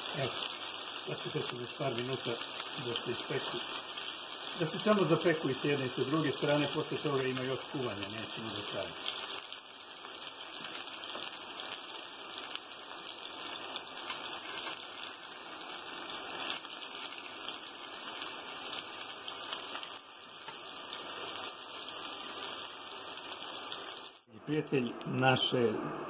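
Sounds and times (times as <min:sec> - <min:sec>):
meat patties sizzling in oil: 0:00.0 - 0:24.3.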